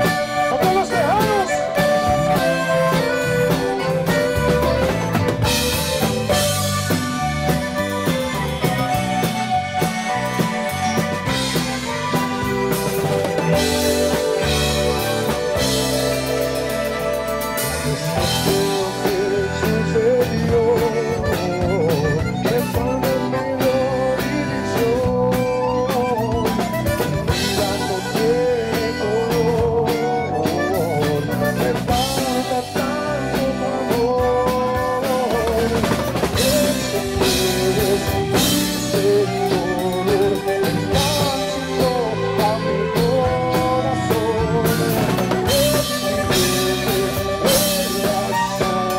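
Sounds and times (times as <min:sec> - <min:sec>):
accordion melody: 0:00.0 - 0:48.9
drum kit beat: 0:00.0 - 0:48.9.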